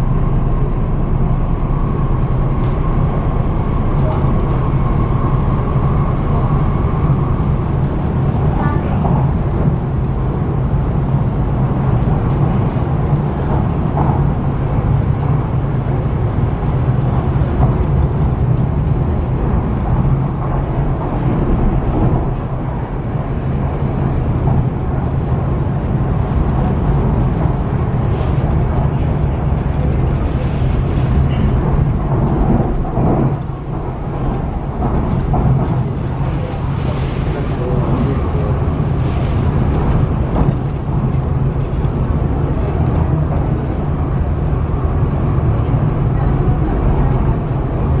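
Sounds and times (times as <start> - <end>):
low traction hum: 0.0 - 48.0
train wheels rumbling on rails: 0.0 - 48.0.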